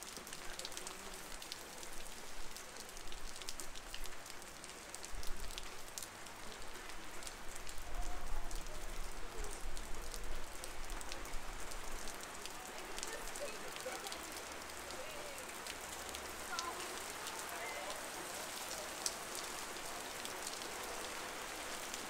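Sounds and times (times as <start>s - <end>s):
heavy rain pouring: 0.0s - 22.0s
raindrops ticking close by: 0.0s - 22.0s.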